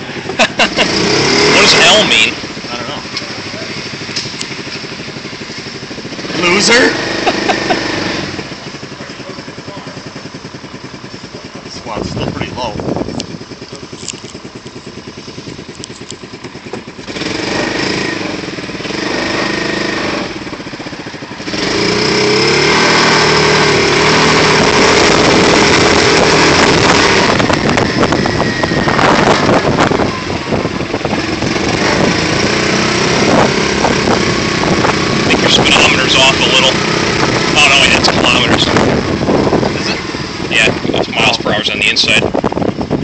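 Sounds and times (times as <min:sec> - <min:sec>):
small car engine puttering and revving: 0:00.0 - 0:43.0.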